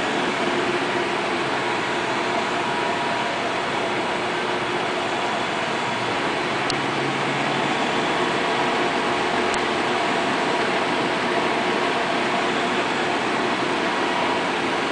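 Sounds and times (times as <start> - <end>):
metal lathe whirring: 0.0 - 14.9.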